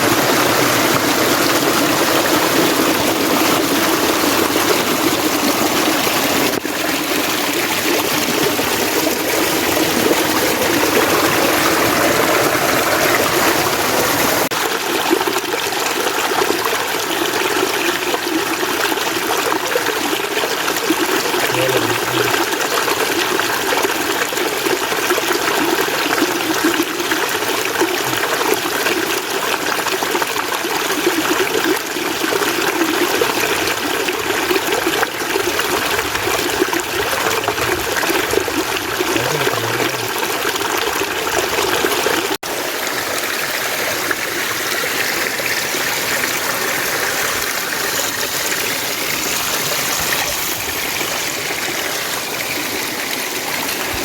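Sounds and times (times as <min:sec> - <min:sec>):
stream water running over rocks: 0:00.0 - 0:54.0.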